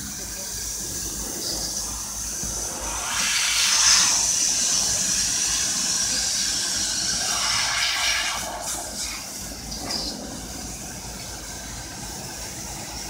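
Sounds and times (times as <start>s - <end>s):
laser cutter hissing: 0.0s - 13.0s.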